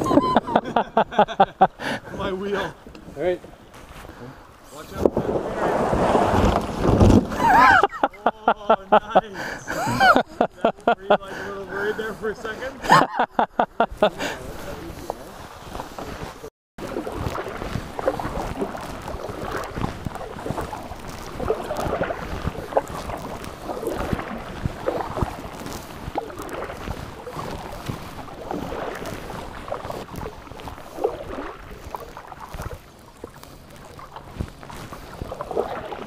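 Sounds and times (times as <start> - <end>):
paddle splashing in water: 0.0 - 13.2, 13.9 - 36.0.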